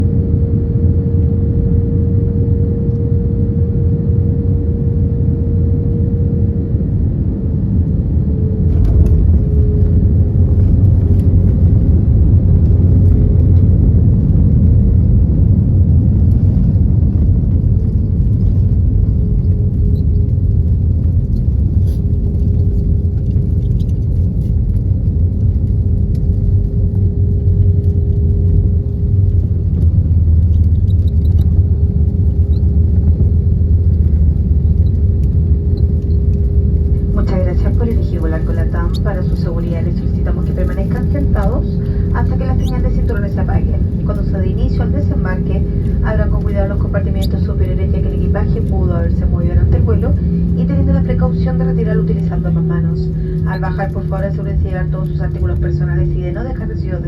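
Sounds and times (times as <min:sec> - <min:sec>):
engine tone: 0:00.0 - 0:23.6, 0:26.6 - 0:57.0
airplane cabin rumble: 0:00.0 - 0:57.0.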